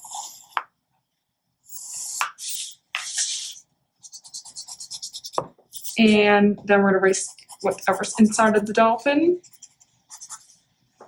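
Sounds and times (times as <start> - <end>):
pencil rubbing back and forth: 0.0 - 0.6, 1.7 - 6.2, 7.0 - 10.7
pencil scratching on paper: 0.0 - 0.6, 1.7 - 10.7.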